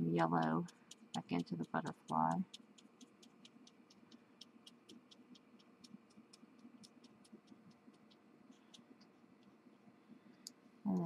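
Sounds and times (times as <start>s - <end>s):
faint even ticking: 0.0s - 9.6s.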